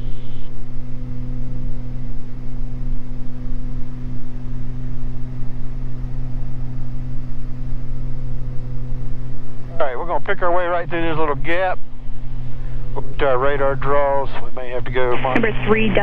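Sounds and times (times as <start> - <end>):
propeller plane engines droning: 0.0 - 16.0.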